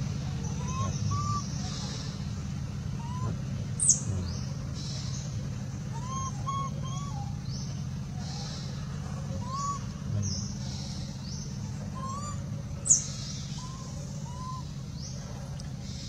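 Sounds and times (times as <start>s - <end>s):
steady low hum: 0.0s - 16.0s
bird whistled calls: 0.4s - 2.2s, 2.9s - 15.2s.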